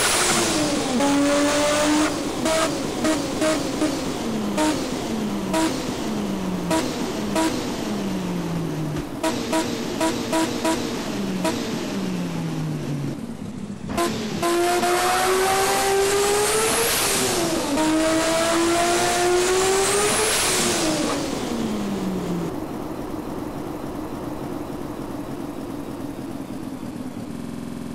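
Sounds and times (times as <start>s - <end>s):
car engine revving: 0.0s - 26.5s.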